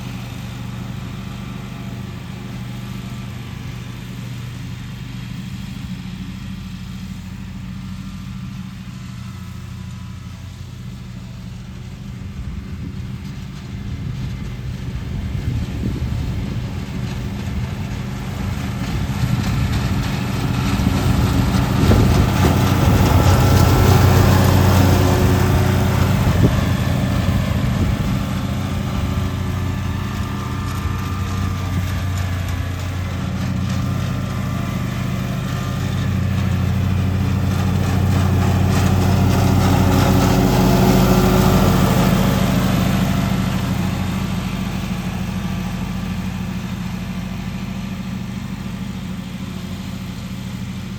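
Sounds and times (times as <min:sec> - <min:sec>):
lawn mower engine running: 0:00.0 - 0:50.9.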